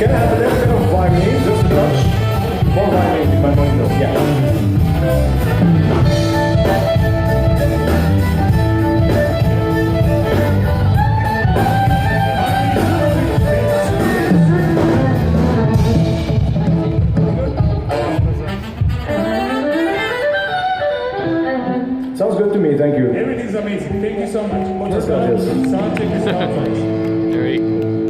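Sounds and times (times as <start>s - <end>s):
live music over pa system: 0.0s - 28.0s.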